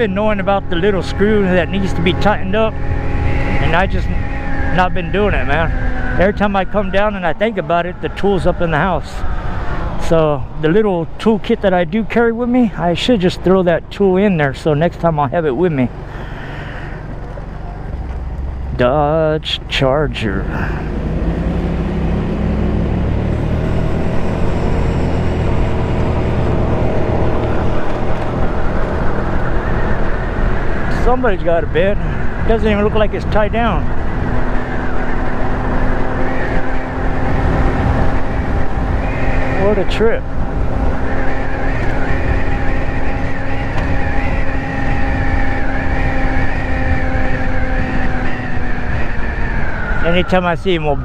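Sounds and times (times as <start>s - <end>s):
road and wind noise: 0.0s - 51.0s.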